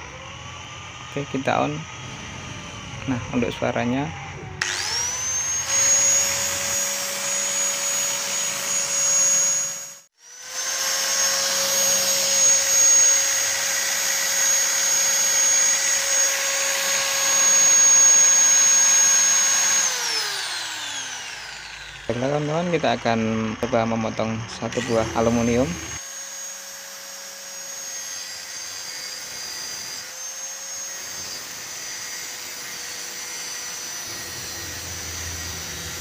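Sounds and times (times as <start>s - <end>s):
angle grinder whining: 0.0s - 36.0s.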